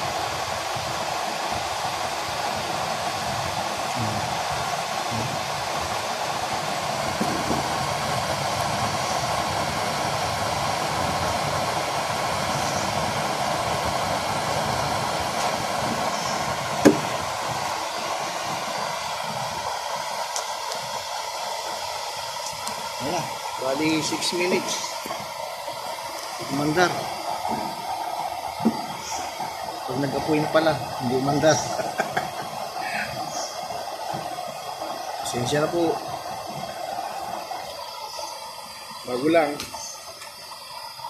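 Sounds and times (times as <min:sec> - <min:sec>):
burner blower fan rushing: 0:00.0 - 0:41.0.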